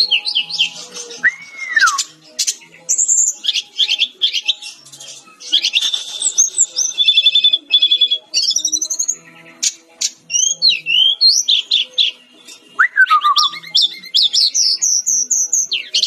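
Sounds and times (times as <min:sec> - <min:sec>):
bird singing whistles and trills: 0:00.0 - 0:16.0.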